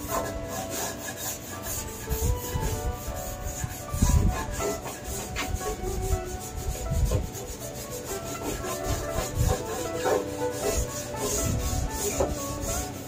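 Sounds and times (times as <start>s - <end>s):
background music: 0.0s - 13.0s
brush scrubbing rusty sheet metal: 0.0s - 13.0s.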